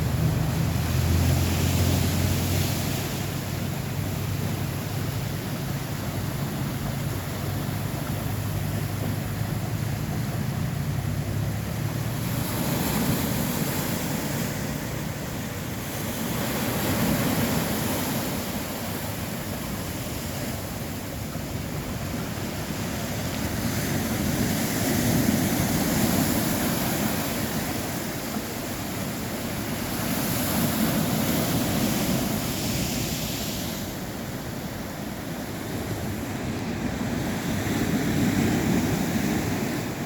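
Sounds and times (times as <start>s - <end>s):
waves breaking on a beach: 0.0s - 40.0s.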